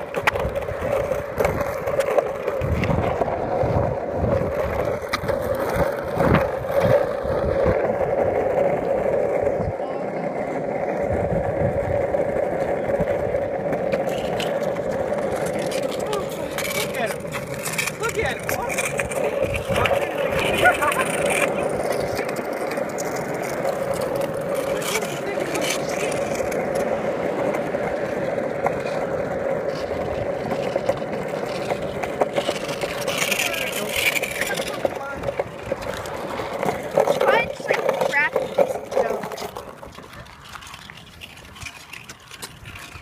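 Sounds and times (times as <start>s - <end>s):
skateboard wheels rolling on asphalt: 0.0s - 43.0s
wheels clicking over cracks: 0.0s - 43.0s.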